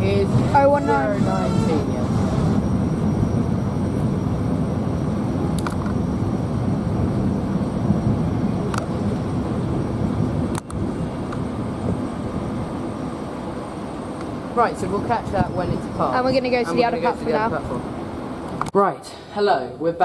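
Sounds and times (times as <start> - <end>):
electric train rolling slowly: 0.0 - 18.7.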